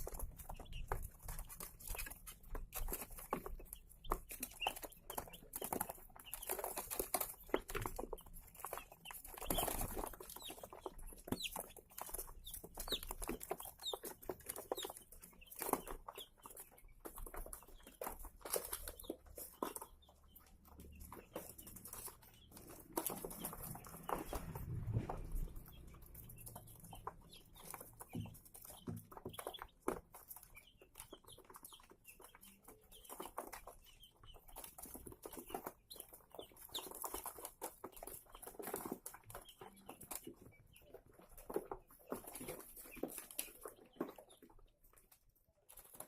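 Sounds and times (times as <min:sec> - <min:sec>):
chicks peeping: 0:00.0 - 0:46.0.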